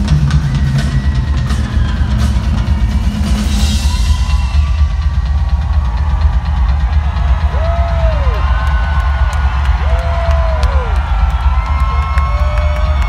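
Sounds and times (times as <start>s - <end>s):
heavy bass drum pounding: 0.0s - 13.0s
live rock drumming: 0.0s - 13.0s.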